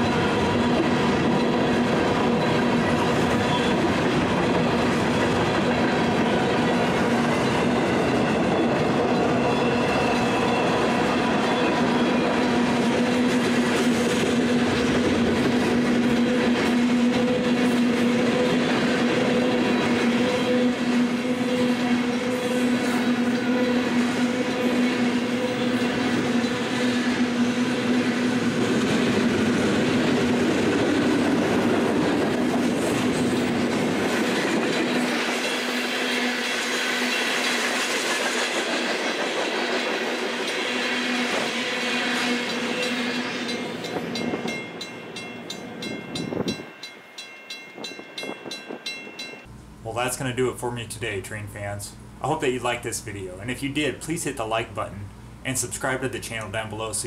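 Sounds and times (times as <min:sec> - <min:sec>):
train wheels clattering over rails: 0:00.0 - 0:21.4, 0:22.0 - 0:47.0.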